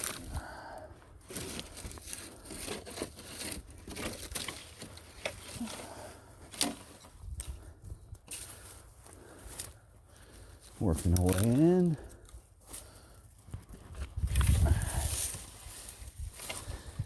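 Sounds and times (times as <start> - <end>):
dry branches crackling and snapping: 0.0 - 17.0.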